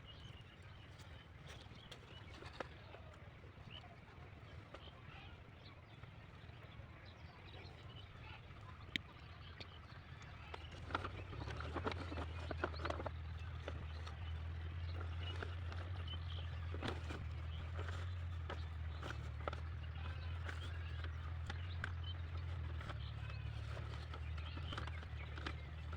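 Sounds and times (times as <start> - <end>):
diesel engine droning: 0.0 - 25.9.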